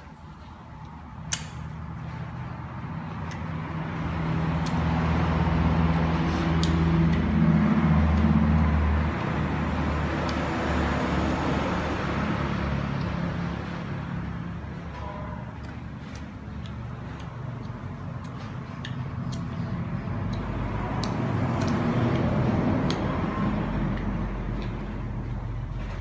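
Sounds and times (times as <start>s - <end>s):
vehicle engine passing by: 1.8s - 26.0s.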